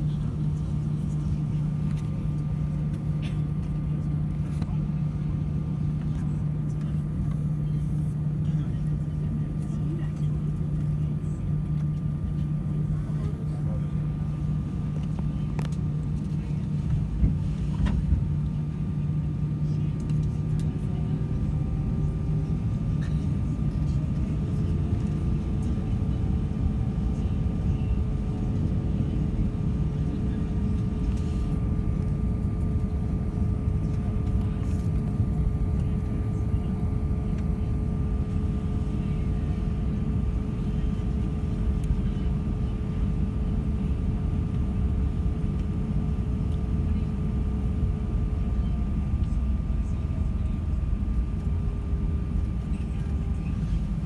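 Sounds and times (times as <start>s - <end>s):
aircraft cabin rumble: 0.0s - 54.0s.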